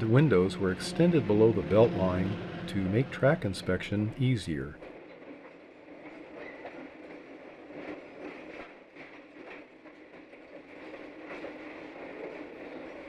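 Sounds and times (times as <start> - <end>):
rail car rolling on track: 0.0 - 13.0.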